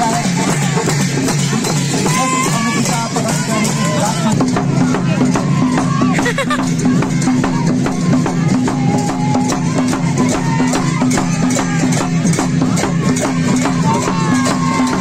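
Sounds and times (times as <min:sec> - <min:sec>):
barrel drums dance beat: 0:00.0 - 0:15.0.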